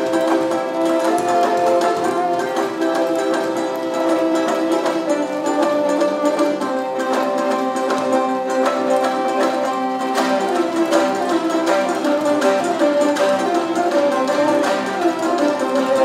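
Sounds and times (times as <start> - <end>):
folk ensemble plucked strings: 0.0 - 16.0.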